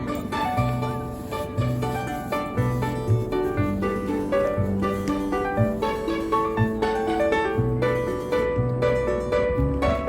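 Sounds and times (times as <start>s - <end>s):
plucked string tune: 0.0s - 10.0s.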